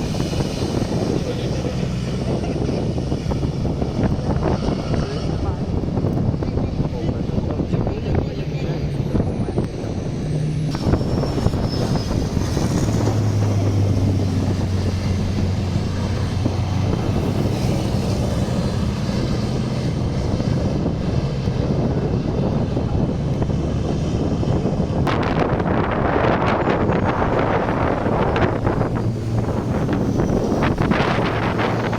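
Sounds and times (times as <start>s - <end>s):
truck diesel engines droning: 0.0s - 31.9s.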